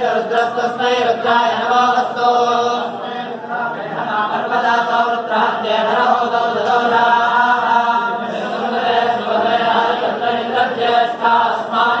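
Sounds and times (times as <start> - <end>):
group of men chanting: 0.0 - 3.0, 3.8 - 12.0.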